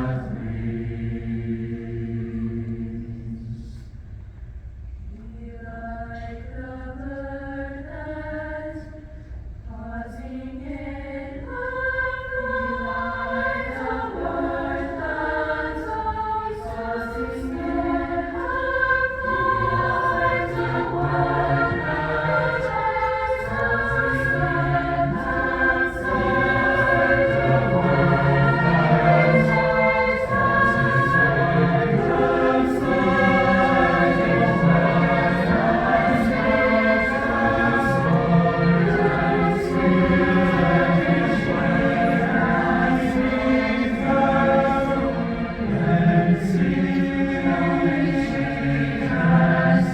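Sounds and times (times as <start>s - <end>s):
choir singing sustained chords: 0.0s - 49.9s.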